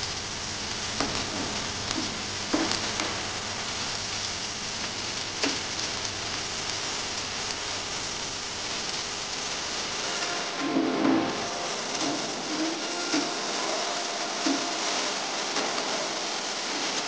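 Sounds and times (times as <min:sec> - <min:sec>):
oil sizzling: 0:00.0 - 0:17.0.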